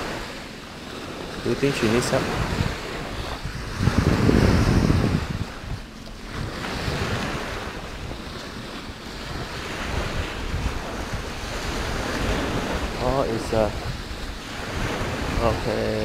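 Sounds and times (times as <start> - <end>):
small waves washing ashore: 0.0 - 16.0
wind buffeting microphone: 0.0 - 16.0.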